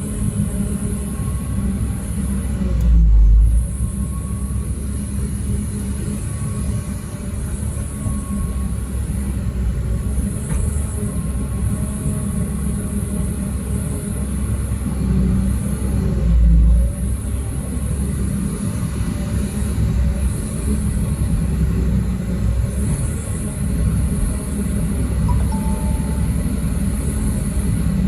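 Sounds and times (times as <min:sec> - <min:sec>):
heavy diesel machinery rumble: 0:00.0 - 0:28.0.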